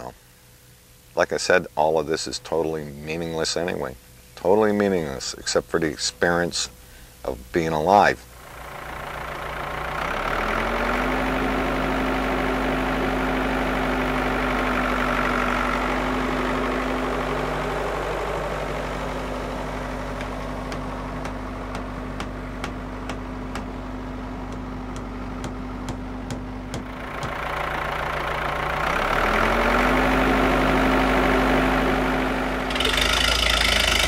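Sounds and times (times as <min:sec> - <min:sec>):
engine idling hum: 0:00.0 - 0:34.0.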